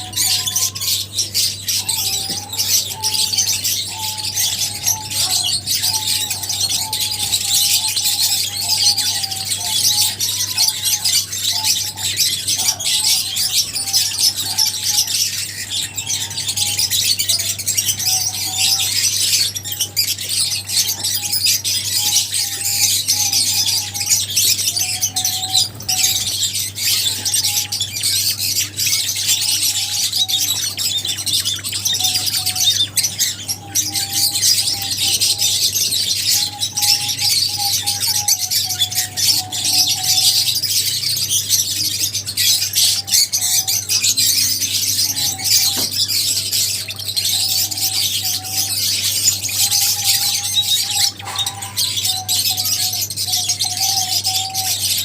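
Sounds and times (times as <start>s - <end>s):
lovebirds chattering and chirping: 0.0s - 55.0s.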